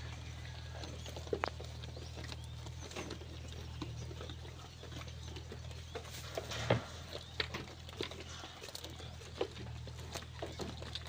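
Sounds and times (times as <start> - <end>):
sheep chewing fodder: 0.0 - 11.0.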